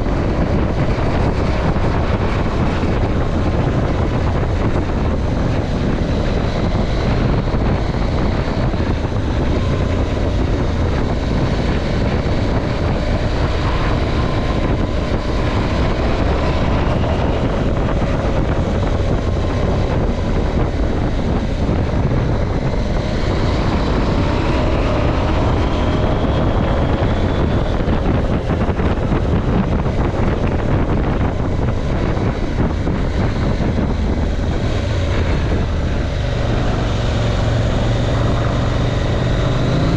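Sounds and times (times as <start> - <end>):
motorcycle engine running: 0.0 - 39.9
wind over microphone: 0.0 - 39.9.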